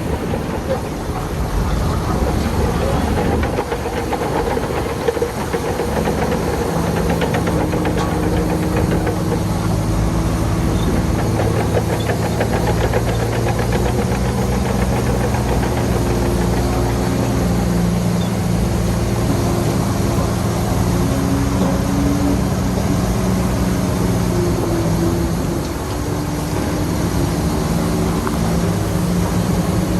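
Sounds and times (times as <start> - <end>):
fast rattling clatter: 0.0 - 24.6
heavy diesel engine running: 0.0 - 29.9.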